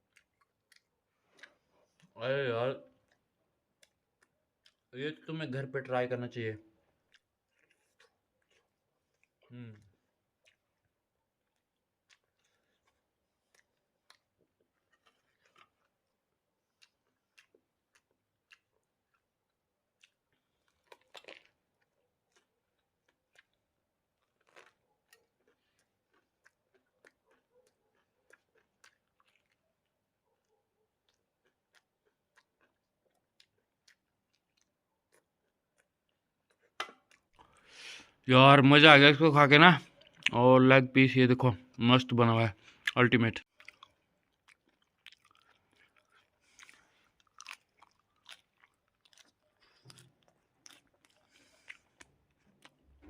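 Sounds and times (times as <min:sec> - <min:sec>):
chewing and crunching food: 0:00.0 - 0:53.0.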